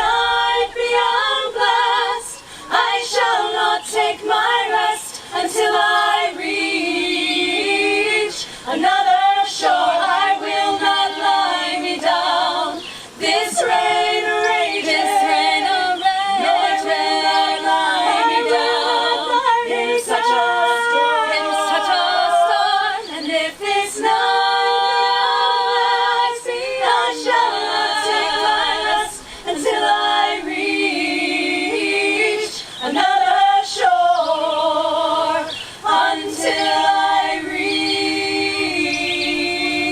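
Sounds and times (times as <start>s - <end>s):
women singing a cappella: 0.0s - 39.9s.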